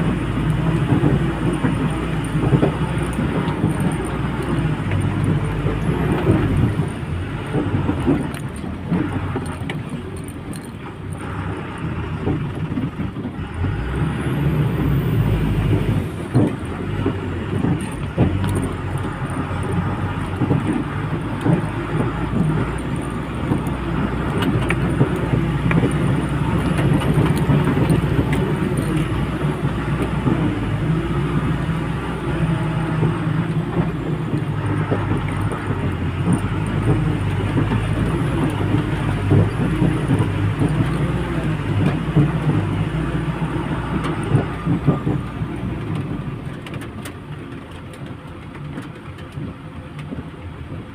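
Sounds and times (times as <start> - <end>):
lorry engine drone: 0.0 - 48.7
road rumble: 0.0 - 50.9.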